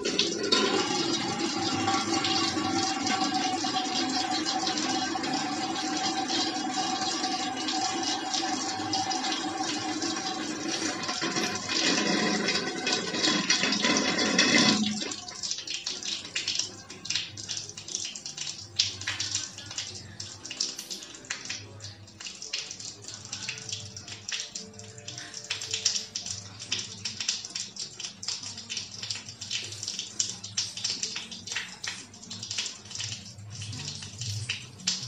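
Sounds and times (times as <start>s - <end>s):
television voice: 0.0s - 35.0s
water dripping: 0.0s - 35.0s.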